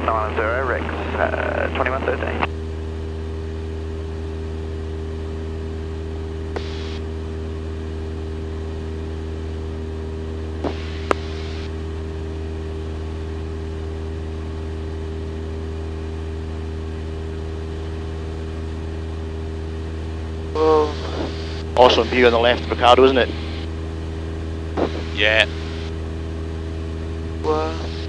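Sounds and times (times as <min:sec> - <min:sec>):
airplane engine and propeller drone: 0:00.0 - 0:28.0.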